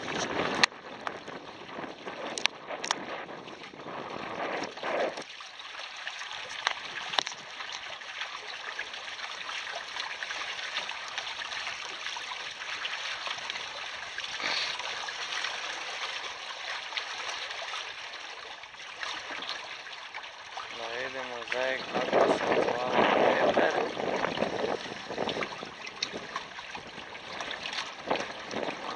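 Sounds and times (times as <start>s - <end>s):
water splashing along hulls: 0.0s - 28.9s.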